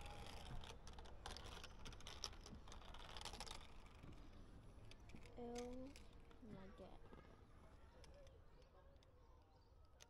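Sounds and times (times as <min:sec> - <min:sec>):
light clicks of climbing gear: 0:00.3 - 0:06.5, 0:07.1 - 0:10.0.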